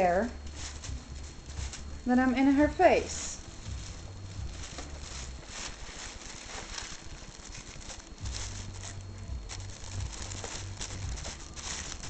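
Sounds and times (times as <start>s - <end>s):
low rumble: 0.0s - 12.0s
plastic bag crinkling: 0.0s - 12.0s.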